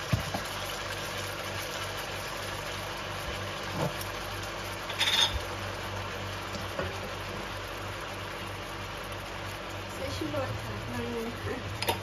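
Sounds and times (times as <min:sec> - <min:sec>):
chicken sizzling in a wok: 0:00.0 - 0:12.0.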